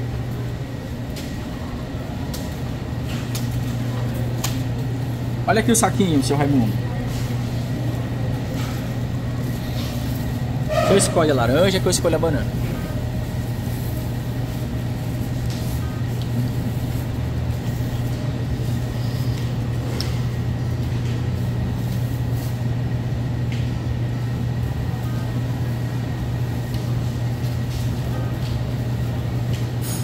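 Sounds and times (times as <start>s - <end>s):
low machinery hum: 0.0s - 30.0s.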